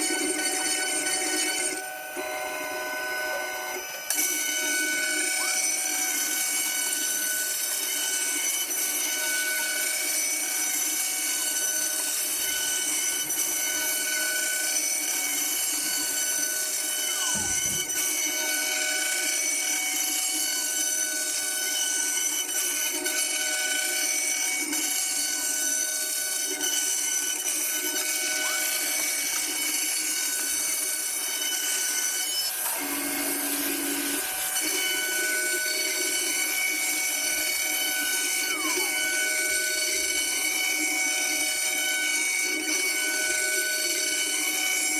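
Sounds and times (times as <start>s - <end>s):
router spindle whine: 0.0s - 44.9s.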